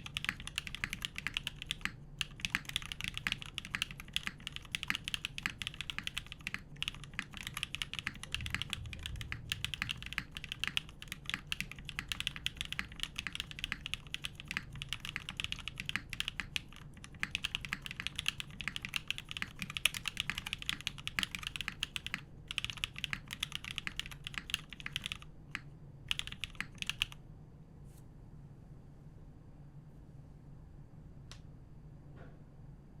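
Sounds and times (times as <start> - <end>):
fast mechanical keyboard typing: 0.0 - 27.2.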